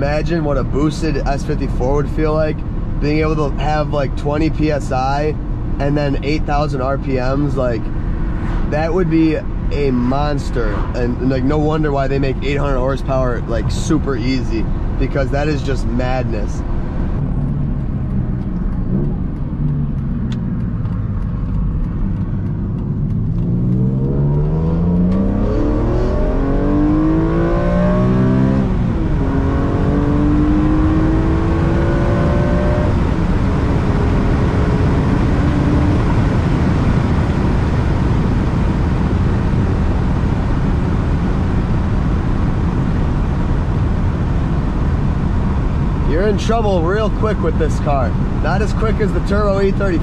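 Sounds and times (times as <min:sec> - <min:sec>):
car engine accelerating: 0:00.0 - 0:50.0
tyre and road noise: 0:00.0 - 0:50.0.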